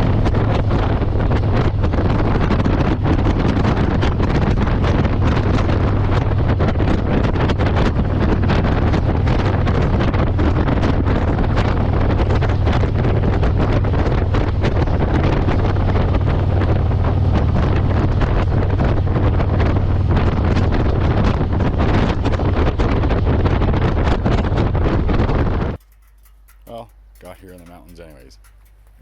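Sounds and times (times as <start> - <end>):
motorcycle engine drone: 0.0 - 29.0
wind buffeting microphone: 0.0 - 29.0.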